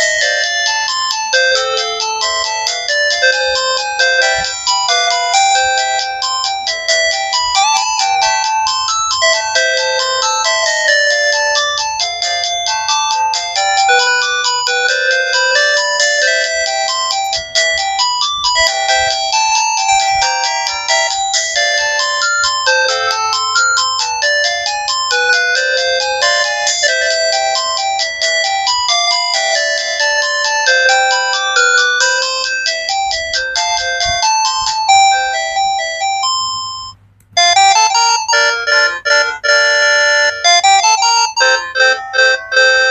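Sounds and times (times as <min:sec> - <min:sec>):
polyphonic phone ringtone: 0:00.0 - 0:42.9.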